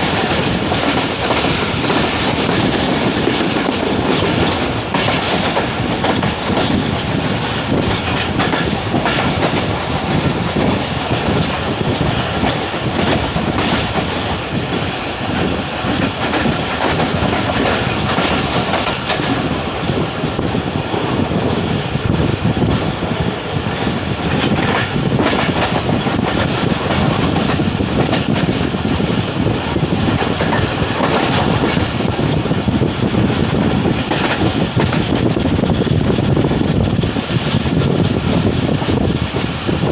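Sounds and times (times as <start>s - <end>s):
train rumbling: 0.0s - 39.9s
wheels clattering over rail joints: 0.0s - 39.9s.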